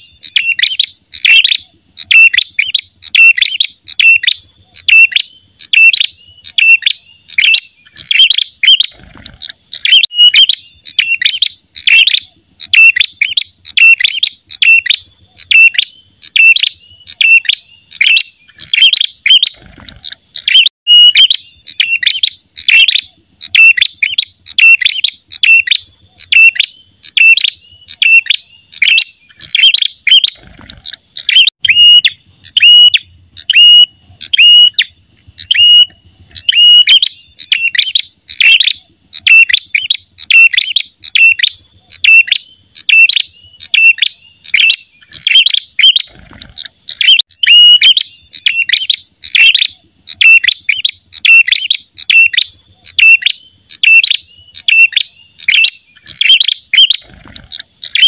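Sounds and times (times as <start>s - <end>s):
bird calling with sharp repeated notes: 0.0s - 58.0s.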